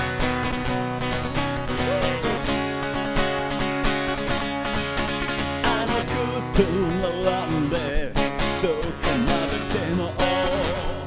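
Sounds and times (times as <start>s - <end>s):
guitar melody with bending notes: 0.0s - 11.0s
strummed guitar chords: 0.0s - 11.0s.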